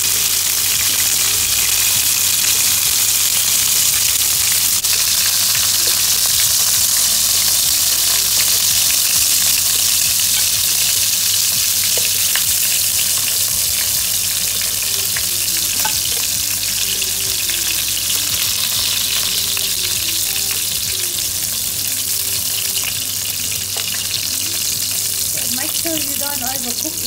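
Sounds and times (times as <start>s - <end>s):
prawns sizzling in oil: 0.0s - 27.0s.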